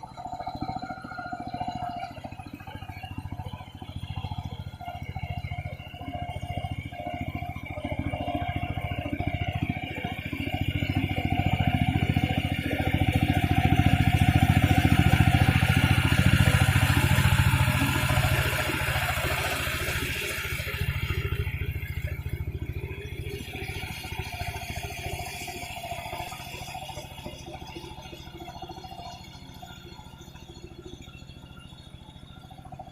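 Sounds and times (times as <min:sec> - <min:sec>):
small tractor engine chugging: 0:00.0 - 0:32.9.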